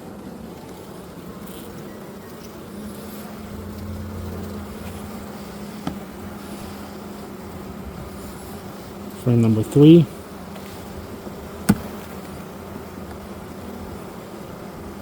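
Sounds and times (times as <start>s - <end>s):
honeybees buzzing: 0.1s - 15.0s.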